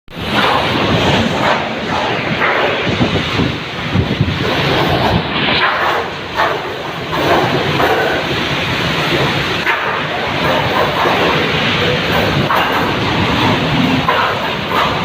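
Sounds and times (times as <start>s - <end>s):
strong wind buffeting microphone: 0.1s - 15.0s.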